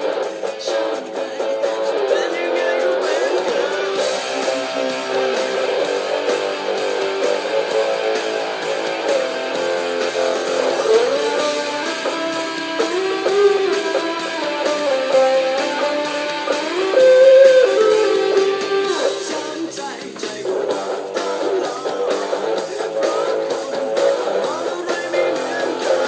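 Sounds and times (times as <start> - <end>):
guitar solo melody: 0.0 - 26.0.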